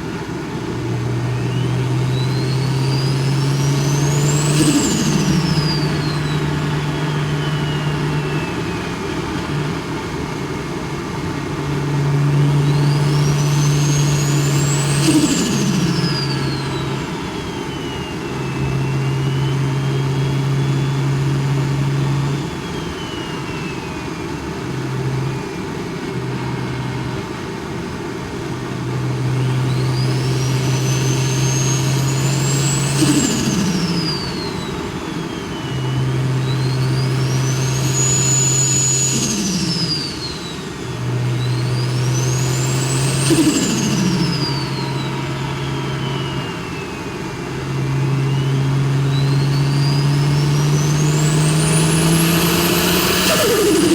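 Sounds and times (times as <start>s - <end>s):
car engine revving: 0.0s - 53.9s
turbo whine: 0.0s - 53.9s
turbo flutter: 0.2s - 27.4s, 28.5s - 53.9s.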